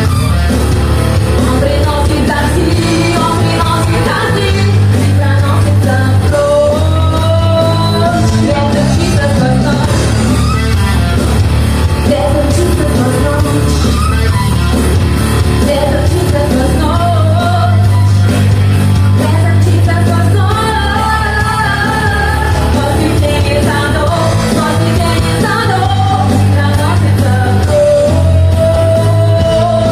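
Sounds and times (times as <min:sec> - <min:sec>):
bass line: 0:00.0 - 0:29.9
drums: 0:00.0 - 0:29.9
woman singing lead vocal: 0:01.3 - 0:10.5, 0:12.0 - 0:14.4, 0:15.6 - 0:18.4, 0:19.1 - 0:29.9.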